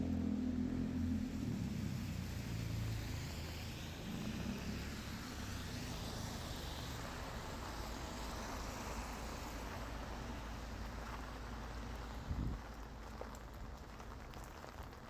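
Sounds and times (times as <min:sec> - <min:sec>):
passing car engine rumble: 0:00.0 - 0:15.0
rain hiss: 0:00.1 - 0:15.0.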